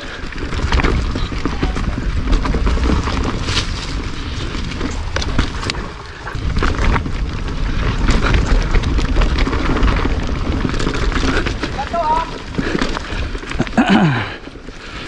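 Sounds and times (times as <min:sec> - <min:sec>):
bike clicks and rattles: 0:00.0 - 0:15.0
wind and ground rumble: 0:00.0 - 0:15.0.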